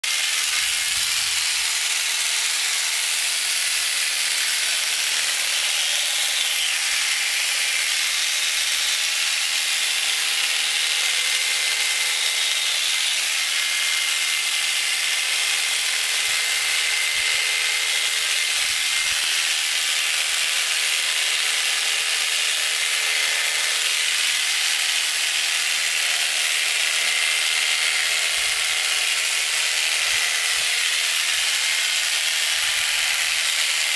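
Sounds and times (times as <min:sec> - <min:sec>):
electric shears buzzing: 0:00.0 - 0:33.9.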